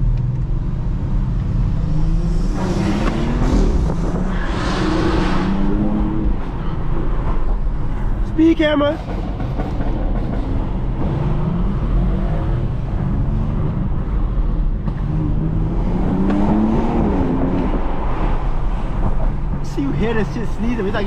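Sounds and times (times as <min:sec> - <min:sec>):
car engine revving: 0:00.0 - 0:08.2, 0:09.0 - 0:21.0.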